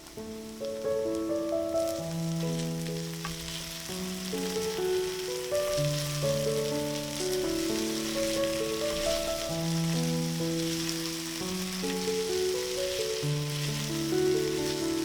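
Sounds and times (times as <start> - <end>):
background music of held notes: 0.0 - 15.0
food sizzling in a pan: 0.0 - 15.0.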